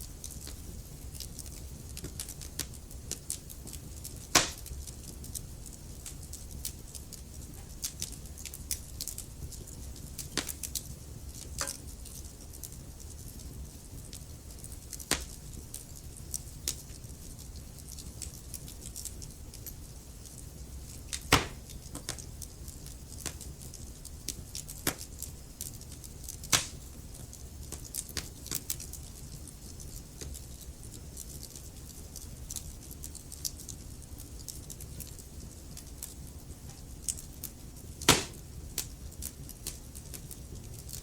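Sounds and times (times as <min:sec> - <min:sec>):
fire pops and snaps: 0:00.0 - 0:41.0
low fire rumble: 0:00.0 - 0:41.0.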